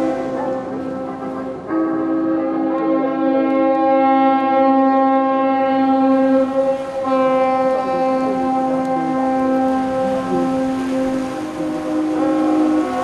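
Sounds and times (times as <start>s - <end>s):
tugboat horn blasts: 0.0s - 13.0s.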